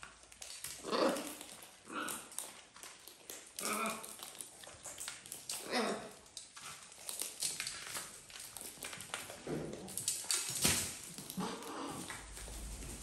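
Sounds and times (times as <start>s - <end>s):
birds cracking seeds: 0.0s - 13.0s.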